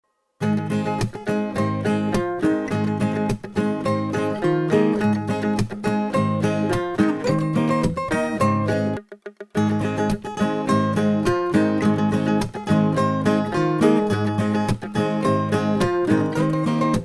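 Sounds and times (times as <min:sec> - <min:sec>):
acoustic guitar strumming chords: 0:00.4 - 0:17.0.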